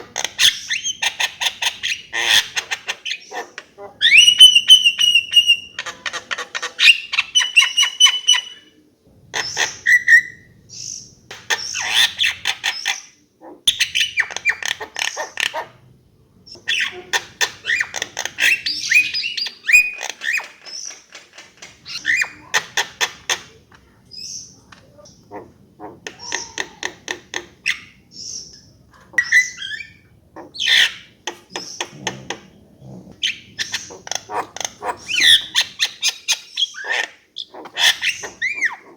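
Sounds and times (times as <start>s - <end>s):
bird singing varied song: 0.2s - 8.8s, 9.4s - 21.2s, 21.8s - 38.9s.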